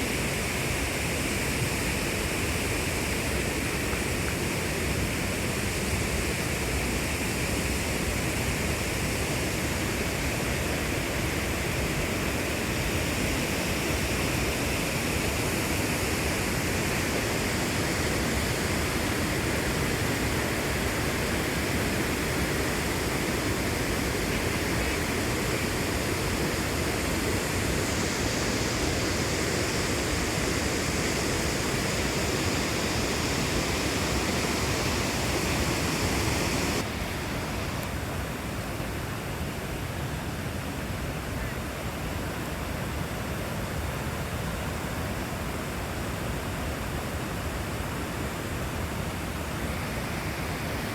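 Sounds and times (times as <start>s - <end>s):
rushing water: 0.0s - 50.9s.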